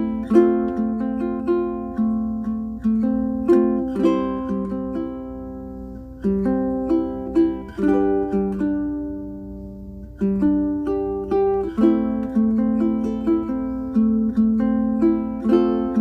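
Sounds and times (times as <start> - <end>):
ukulele plucked chords and notes: 0.0 - 16.0.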